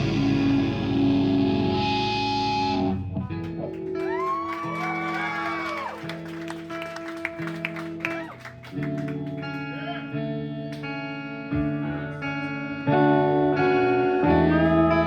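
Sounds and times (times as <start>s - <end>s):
live band music with guitar: 0.0s - 15.0s.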